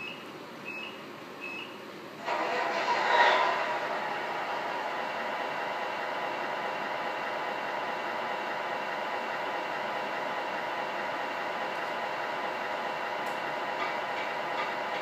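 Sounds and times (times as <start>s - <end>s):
simulated diesel engine idling: 2.2s - 15.0s.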